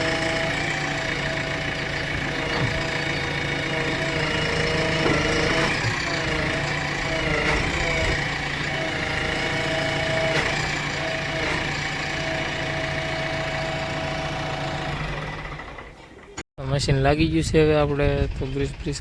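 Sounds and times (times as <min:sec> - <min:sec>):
diesel engine idling: 0:00.0 - 0:16.4.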